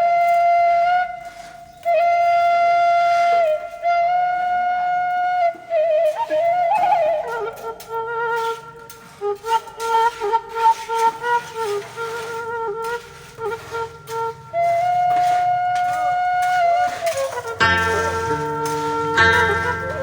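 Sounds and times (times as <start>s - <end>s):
flute melody: 0.0s - 20.0s.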